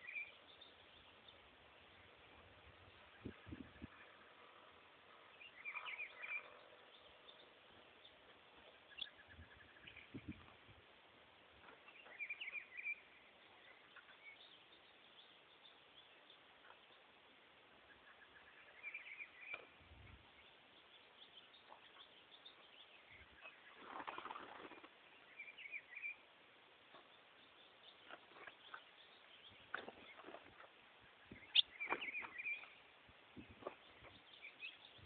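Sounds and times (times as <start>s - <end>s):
bird chirping faintly: 0.0s - 10.8s, 11.5s - 35.0s.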